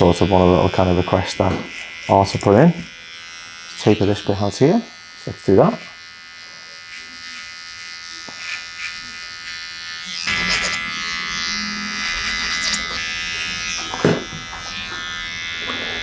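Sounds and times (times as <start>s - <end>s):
hair trimmer buzzing: 0.0s - 16.0s.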